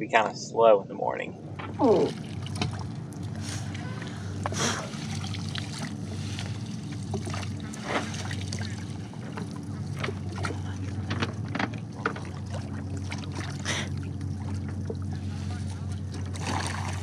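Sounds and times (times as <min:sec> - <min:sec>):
steady low motor hum: 0:00.0 - 0:17.0
small splashes: 0:01.8 - 0:17.0.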